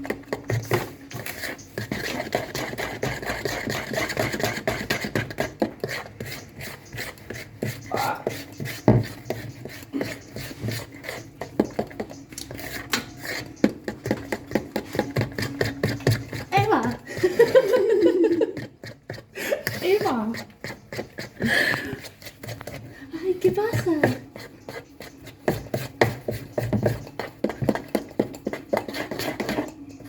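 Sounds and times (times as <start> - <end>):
utensils scraping against a bowl: 0.0 - 30.0.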